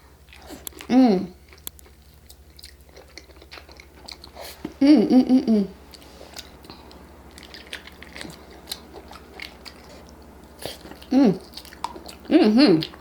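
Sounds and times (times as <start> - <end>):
person chewing food: 0.0 - 4.8, 5.7 - 13.0.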